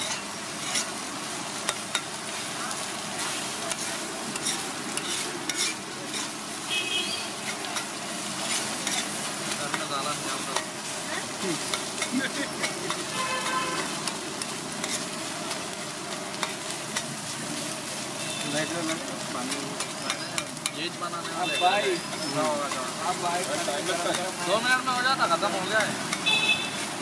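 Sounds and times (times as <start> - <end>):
metal spatula scraping on griddle: 0.0 - 2.2, 3.2 - 24.6
frying sizzle: 0.0 - 27.0.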